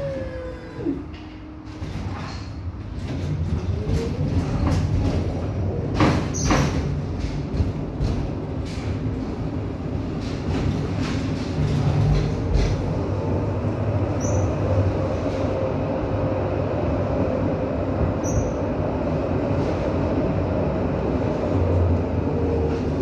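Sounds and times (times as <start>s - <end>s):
tram wheels rumbling on rails: 0.0s - 23.0s.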